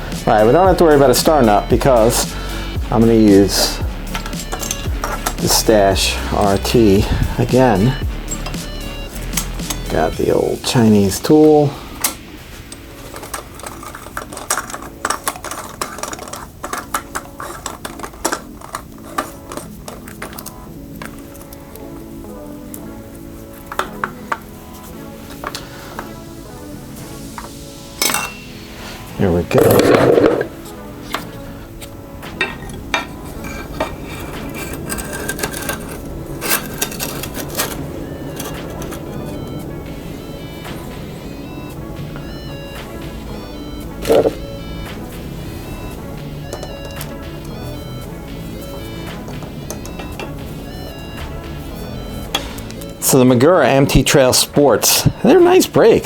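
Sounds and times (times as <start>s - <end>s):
metal tools clinking: 2.9s - 26.1s, 27.3s - 56.0s.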